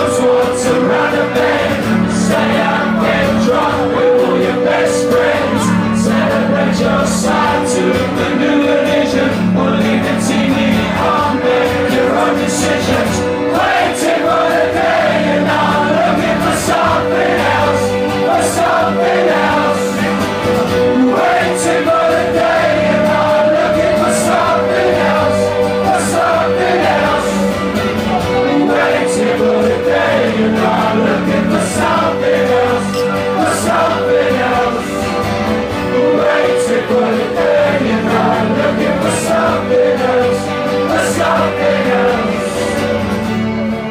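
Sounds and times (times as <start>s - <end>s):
electric guitar: 0.0s - 43.9s
strummed acoustic guitar: 0.0s - 43.9s.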